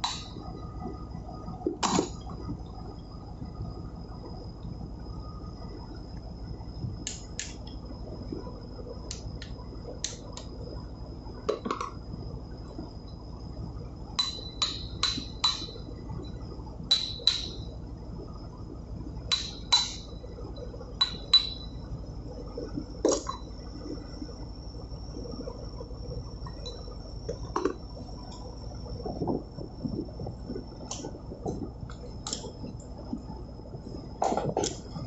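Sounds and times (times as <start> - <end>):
faint high whine: 0.0 - 35.0.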